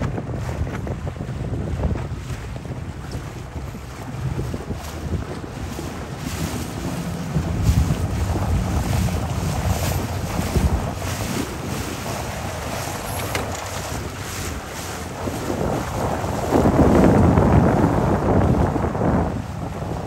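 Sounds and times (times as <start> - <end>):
choppy water splashing on hull: 0.0 - 20.0
wind buffeting microphone: 0.0 - 20.0.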